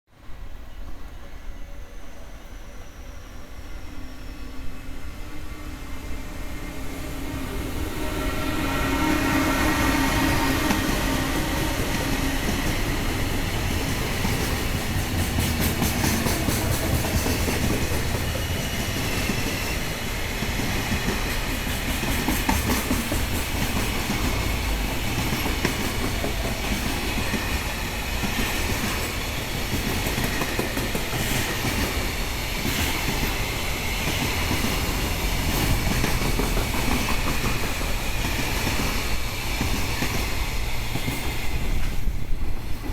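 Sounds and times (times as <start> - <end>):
freight train wheels rumbling: 0.2 - 42.9.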